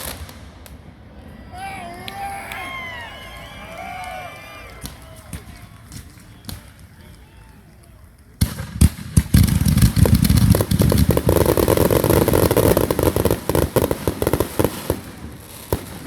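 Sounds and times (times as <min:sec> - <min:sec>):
fireworks popping and crackling: 0:00.0 - 0:00.8, 0:03.9 - 0:16.0
firework bangs: 0:00.0 - 0:16.0.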